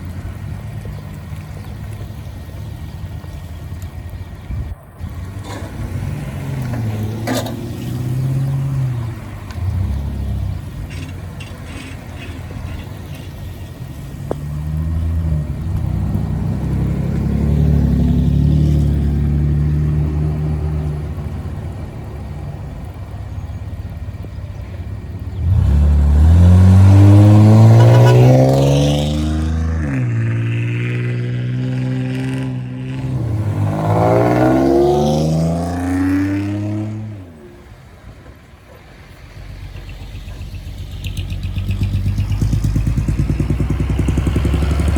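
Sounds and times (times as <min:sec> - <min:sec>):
cars driving past revving: 0:05.0 - 0:44.9.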